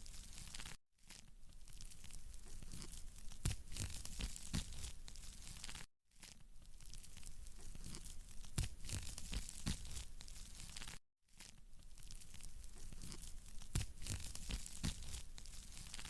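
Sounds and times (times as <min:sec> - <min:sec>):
wood fire crackling: 0:01.5 - 0:11.0, 0:11.8 - 0:16.0.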